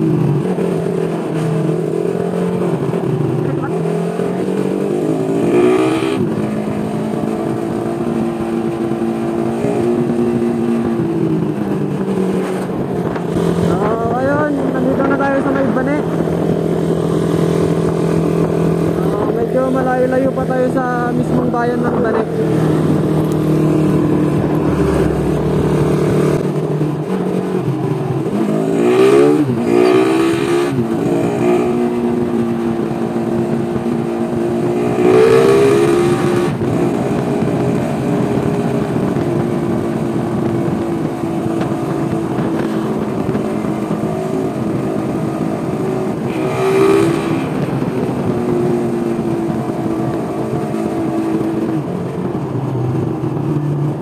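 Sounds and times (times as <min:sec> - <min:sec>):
motorcycle engine revving: 0:00.0 - 0:54.0
road noise: 0:00.0 - 0:54.0
wind noise: 0:00.0 - 0:54.0.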